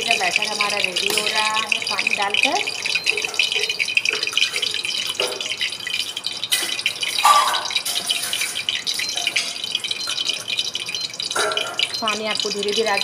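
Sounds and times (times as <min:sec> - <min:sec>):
water pouring: 0:00.0 - 0:13.0.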